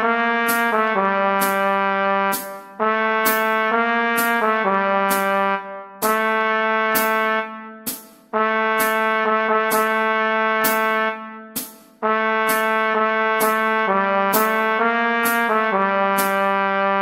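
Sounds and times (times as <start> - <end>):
trumpet playing slow melody: 0.0 - 17.0.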